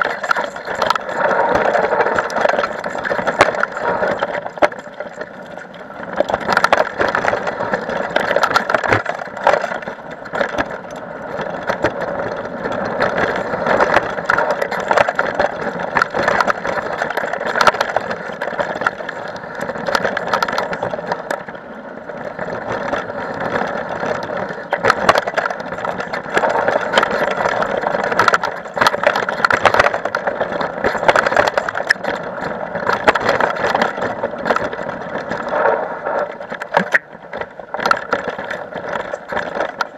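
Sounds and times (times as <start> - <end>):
bike tyres rolling on gravel: 0.0 - 39.9.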